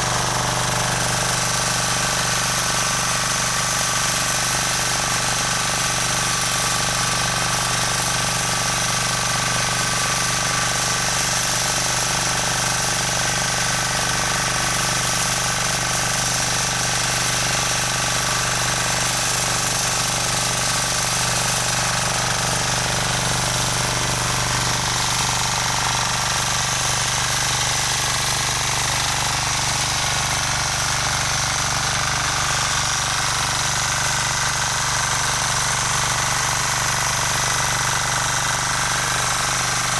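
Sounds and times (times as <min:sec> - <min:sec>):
rototiller engine running: 0:00.0 - 0:39.9.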